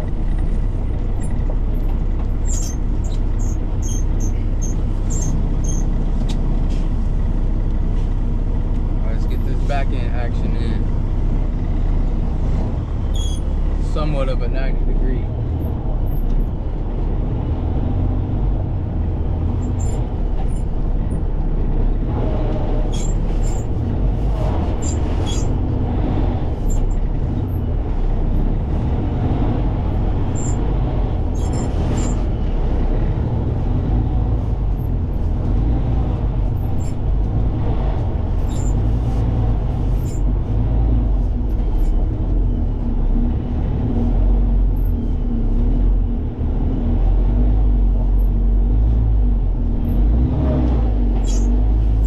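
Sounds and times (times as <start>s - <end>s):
diesel truck engine rumbling: 0.0s - 52.0s.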